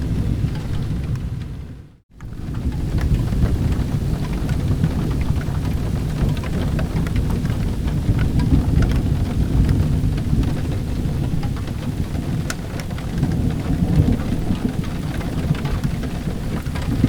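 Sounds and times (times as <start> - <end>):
low rumble of thunder: 0.0 - 17.0
steady rain: 0.0 - 17.0.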